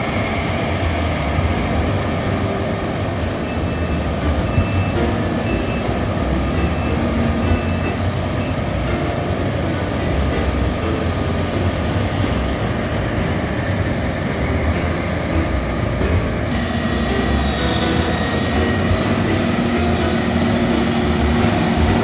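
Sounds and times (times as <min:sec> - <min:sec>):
combine harvester engine running: 0:00.0 - 0:22.0.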